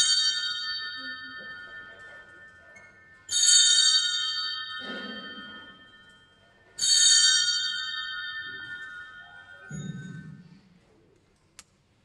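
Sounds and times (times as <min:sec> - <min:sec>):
altar bells ringing: 0:00.0 - 0:10.8.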